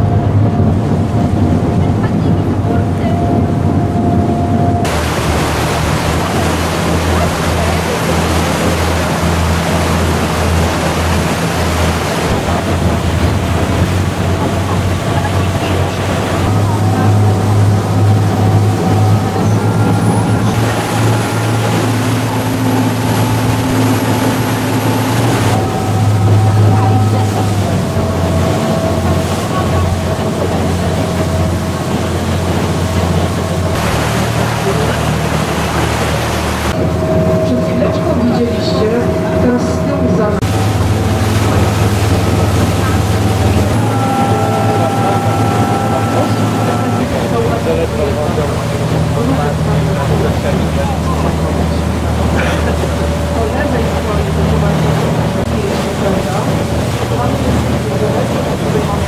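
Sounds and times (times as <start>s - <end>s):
boat engine humming: 0.0s - 59.0s
water rushing along boat hull: 0.0s - 59.0s
wind on microphone: 0.0s - 59.0s.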